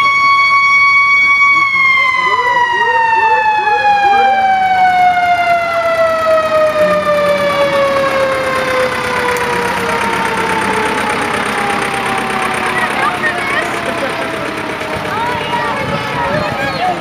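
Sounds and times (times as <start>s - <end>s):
mechanical siren winding down: 0.0s - 17.0s.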